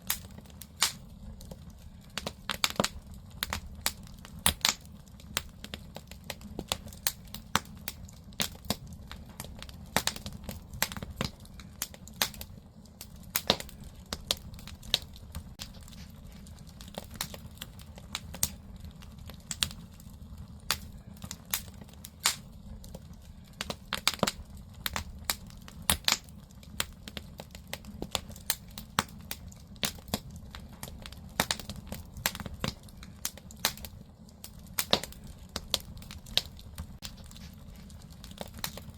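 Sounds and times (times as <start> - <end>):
firewood crackling and popping: 0.0 - 38.9
low fire rumble: 0.0 - 38.9.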